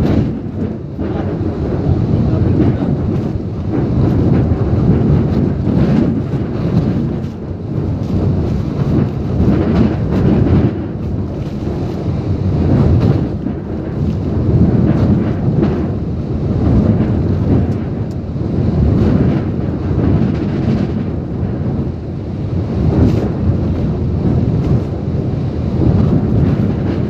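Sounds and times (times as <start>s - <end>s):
rain: 0.0s - 27.0s
wind rumble on microphone: 0.0s - 27.0s.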